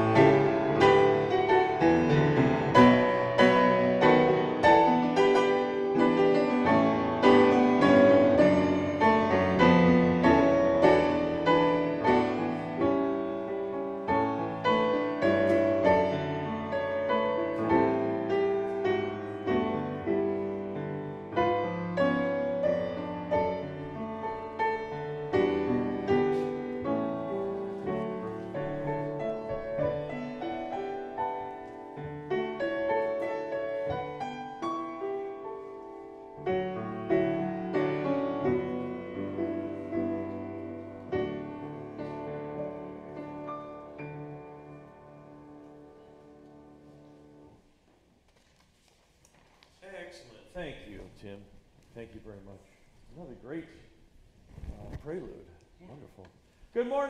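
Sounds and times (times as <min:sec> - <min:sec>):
solo piano playing: 0:00.0 - 0:47.6.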